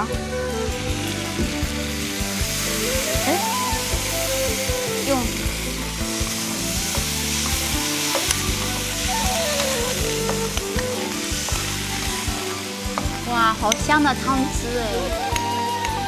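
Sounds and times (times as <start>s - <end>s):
background music: 0.0s - 16.0s
sauce sizzling in a wok: 0.0s - 16.0s.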